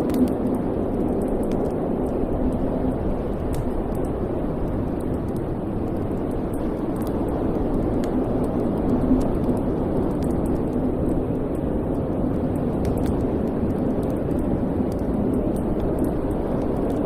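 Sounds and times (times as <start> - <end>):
faint fire crackles: 0.0 - 17.0
flames rushing: 0.0 - 17.0.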